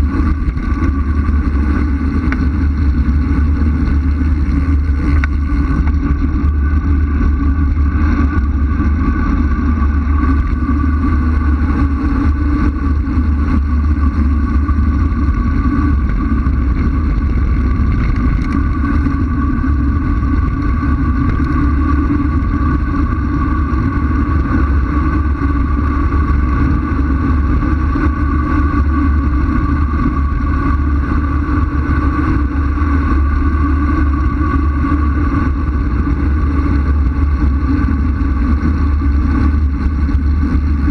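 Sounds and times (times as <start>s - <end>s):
high steady hum: 0.0s - 40.9s
wind roaring over microphone: 0.0s - 40.9s.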